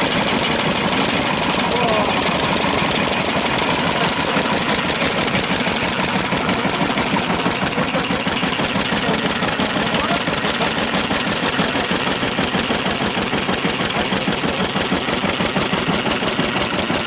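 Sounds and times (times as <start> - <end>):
stationary engines running: 0.0 - 17.0.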